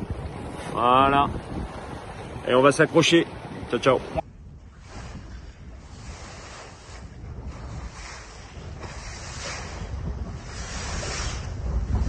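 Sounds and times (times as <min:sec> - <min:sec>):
sea water splashing: 0:00.0 - 0:12.0
wind buffeting microphone: 0:00.0 - 0:12.0.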